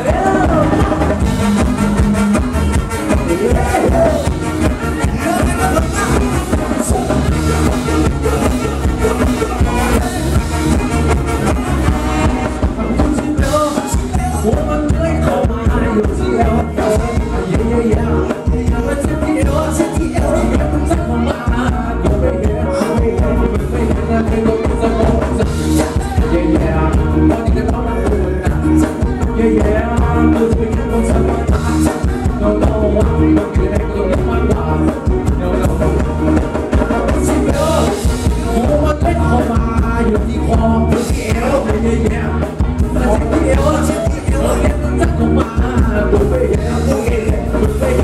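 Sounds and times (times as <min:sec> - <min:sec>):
live band dance music: 0:00.0 - 0:48.0
man singing: 0:00.0 - 0:48.0.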